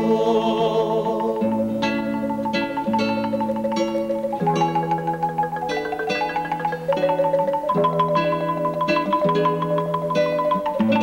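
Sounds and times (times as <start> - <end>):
marimba playing quick notes: 1.1 - 11.0.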